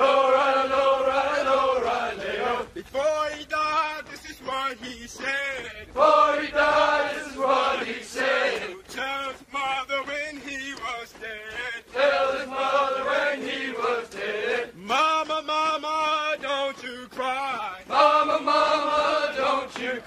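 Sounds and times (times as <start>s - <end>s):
group chanting running cadence: 0.0s - 20.0s.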